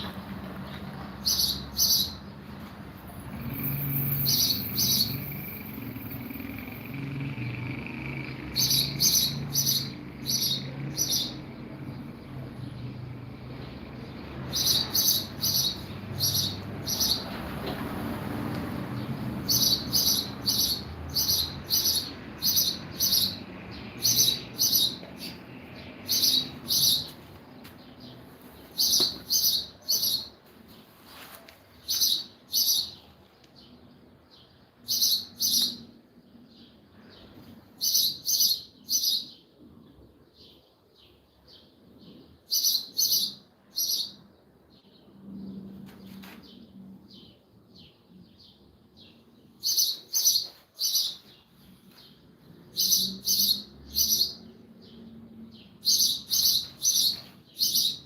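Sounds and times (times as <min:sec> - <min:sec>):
bird chirping: 0:00.0 - 0:02.6, 0:03.2 - 0:17.4, 0:19.0 - 0:30.9, 0:31.7 - 0:58.0.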